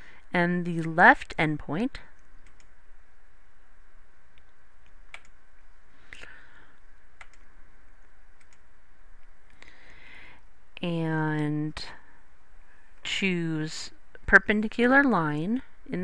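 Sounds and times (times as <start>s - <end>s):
microphone hiss: 0.0s - 16.0s.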